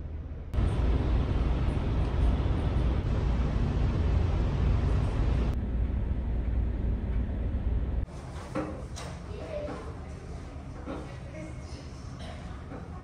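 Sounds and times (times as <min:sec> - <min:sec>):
ship engine rumble: 0:00.0 - 0:13.0.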